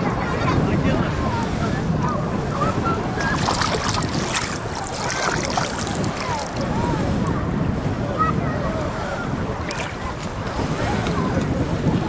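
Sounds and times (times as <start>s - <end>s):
sea waves lapping and splashing: 0.0s - 12.0s
wind buffeting microphone: 0.0s - 12.0s.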